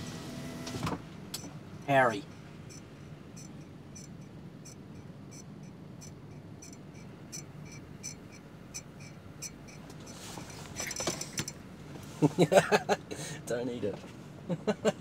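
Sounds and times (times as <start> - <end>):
car cabin rumble: 0.0 - 12.9.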